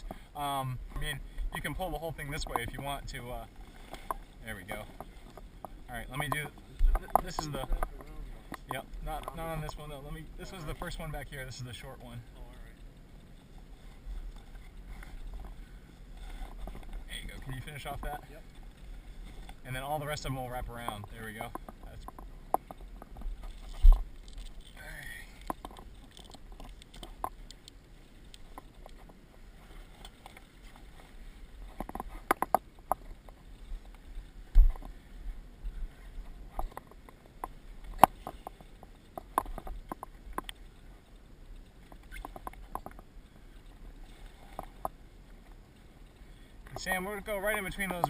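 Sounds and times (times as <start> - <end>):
sail cloth rustling and clicking: 1.0 - 48.0.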